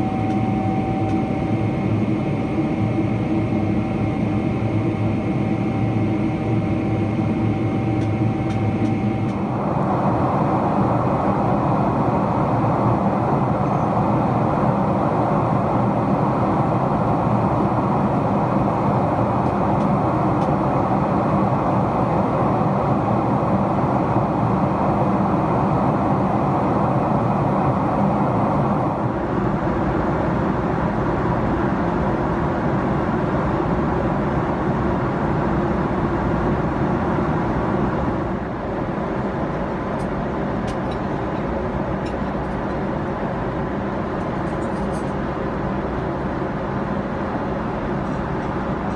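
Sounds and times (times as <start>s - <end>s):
airplane cabin engine rush: 0.0s - 48.9s
high jet engine whine: 0.0s - 48.9s.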